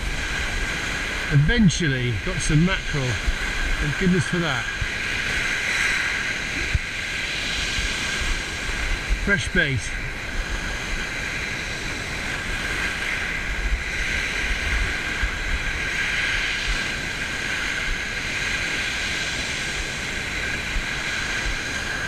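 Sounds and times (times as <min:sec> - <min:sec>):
waves on shingle beach: 0:00.0 - 0:22.0
wind rumble on microphone: 0:00.0 - 0:22.0.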